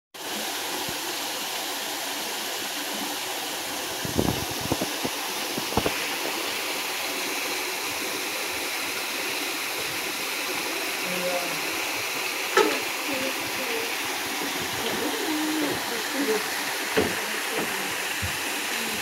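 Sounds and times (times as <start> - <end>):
waterfall splashing into pond: 0.2 - 19.0.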